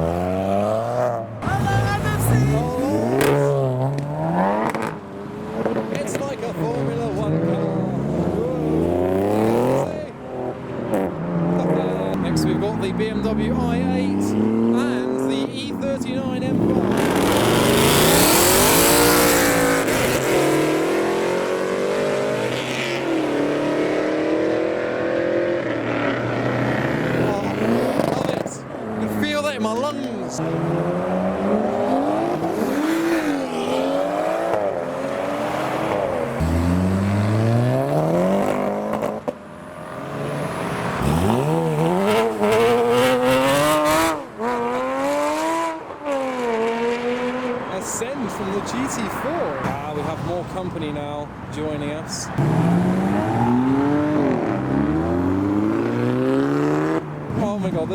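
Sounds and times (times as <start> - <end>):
car engine accelerating: 0.0 - 50.9, 52.3 - 57.9.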